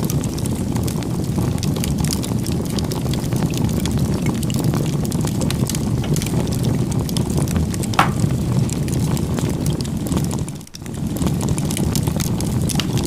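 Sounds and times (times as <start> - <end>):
fire crackles and pops: 0.0 - 13.0
fire rumbling: 0.0 - 13.0.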